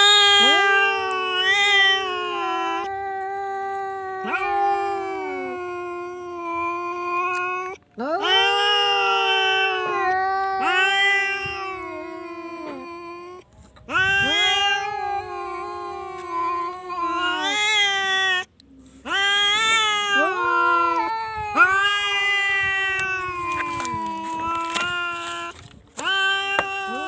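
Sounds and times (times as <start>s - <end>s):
cat yowling: 0.0s - 27.0s.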